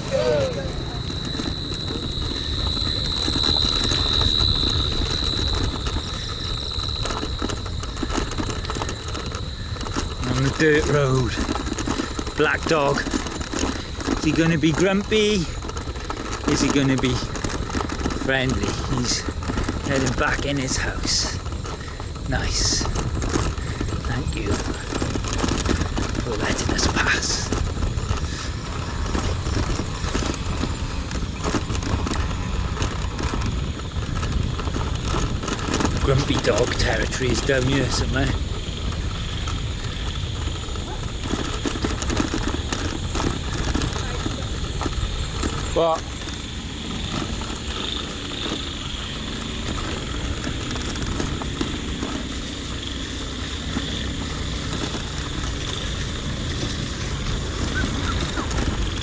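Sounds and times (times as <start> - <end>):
bicycle rattling and knocking: 0.0 - 59.0
wind rumble on microphone: 0.0 - 59.0.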